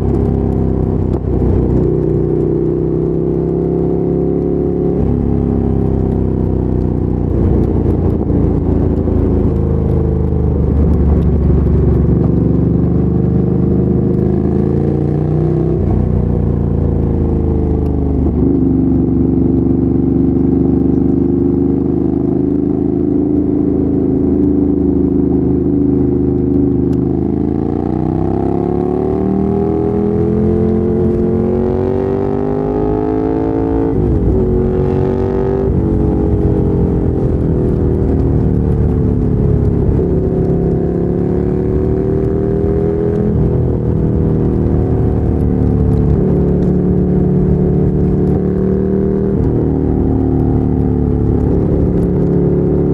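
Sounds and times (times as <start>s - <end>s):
motorcycle engine riding: 0.0s - 52.9s.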